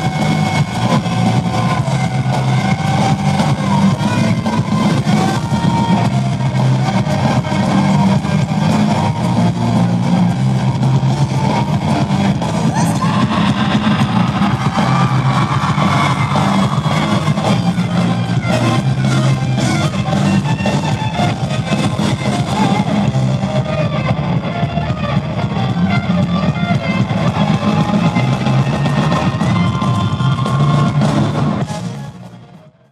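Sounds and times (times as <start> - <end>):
drum kit: 0.0 - 32.7
electric guitar: 0.0 - 32.9.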